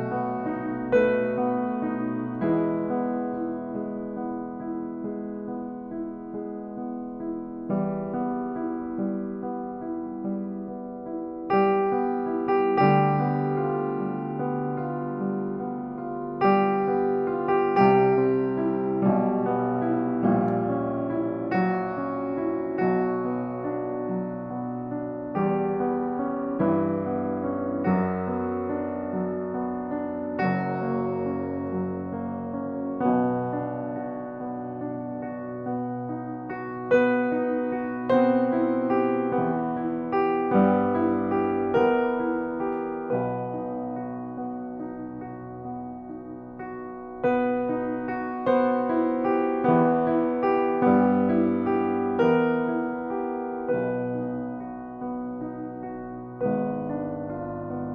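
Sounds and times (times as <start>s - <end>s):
piano sustained chords: 0.0s - 57.9s.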